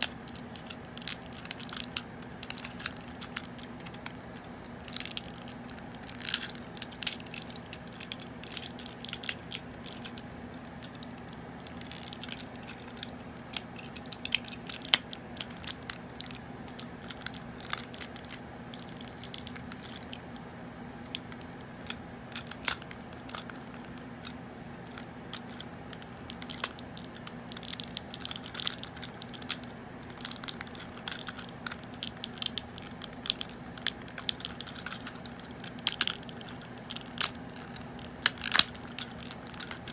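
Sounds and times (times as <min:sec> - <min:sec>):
toy parts clicking: 0:00.0 - 0:39.9.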